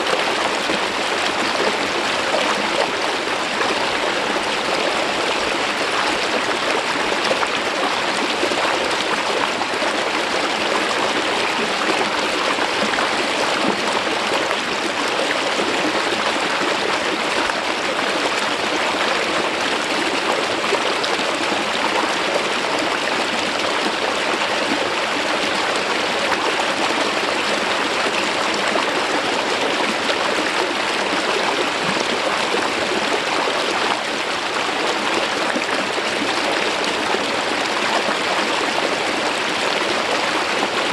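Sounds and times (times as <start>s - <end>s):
stream water rushing over rock: 0.0s - 40.9s.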